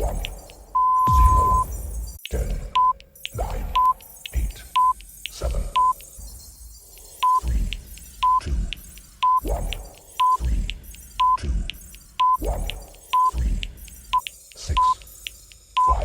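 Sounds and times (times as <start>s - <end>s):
timer beeps: 0.0s - 16.0s.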